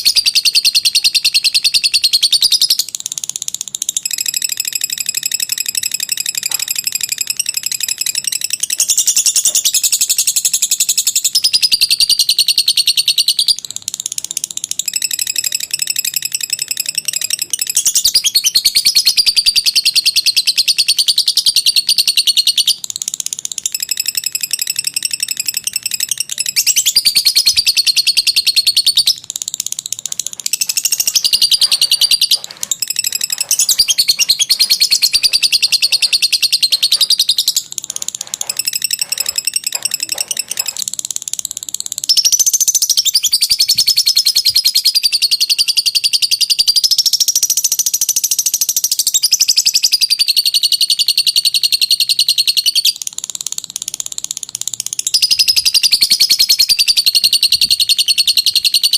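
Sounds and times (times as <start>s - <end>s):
bird chattering trill: 0.0s - 58.9s.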